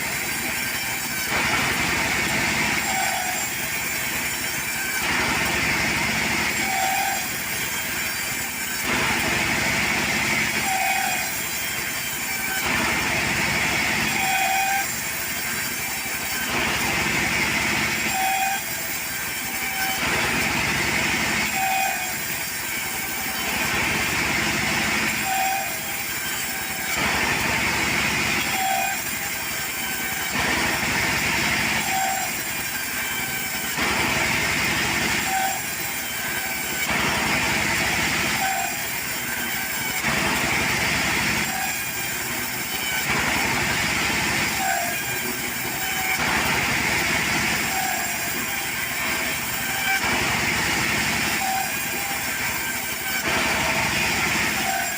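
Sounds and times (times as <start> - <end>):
sawmill cutting: 0.0 - 54.9.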